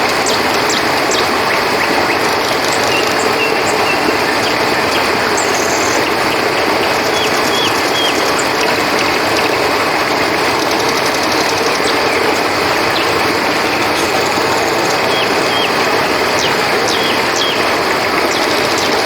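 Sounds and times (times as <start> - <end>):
crickets trilling: 0.0 - 19.0
flowing river water: 0.0 - 19.0.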